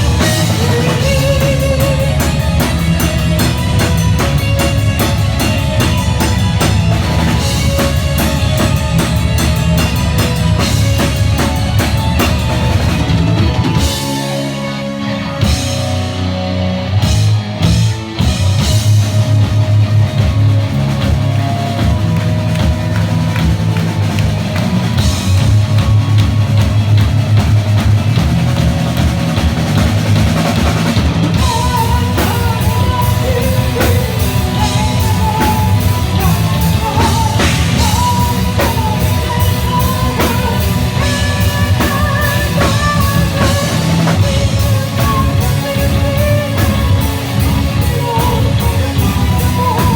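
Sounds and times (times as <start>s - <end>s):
rock band playing live: 0.0s - 49.9s.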